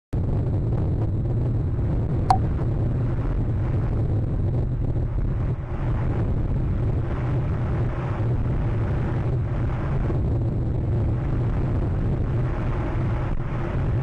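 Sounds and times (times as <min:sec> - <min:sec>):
strong wind buffeting microphone: 0:00.2 - 0:14.0.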